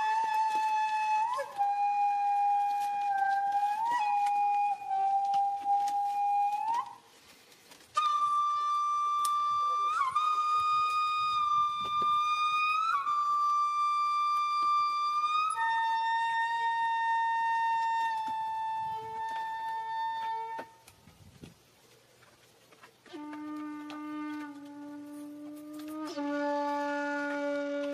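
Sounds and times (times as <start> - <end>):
flute-like wind instrument: 0.0 - 21.5, 23.0 - 27.9.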